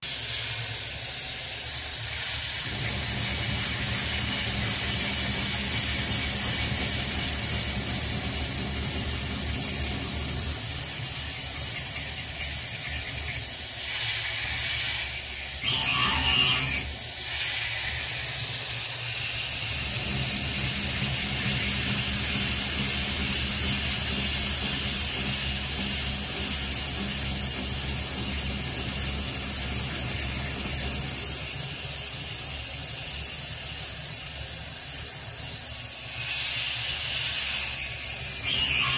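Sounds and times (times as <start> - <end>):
coolant spray hiss: 0.0 - 38.9
mill cutting noise: 2.0 - 32.1, 37.4 - 38.9.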